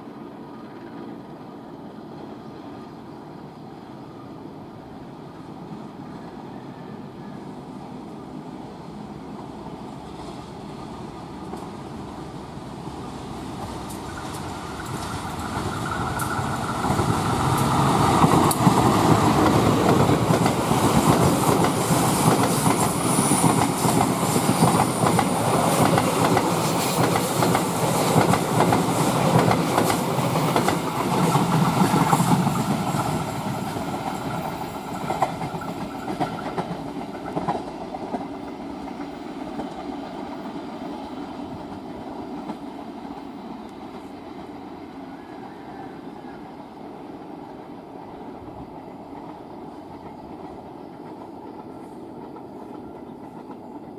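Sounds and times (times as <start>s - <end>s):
train wheels rumbling: 5.6s - 53.9s.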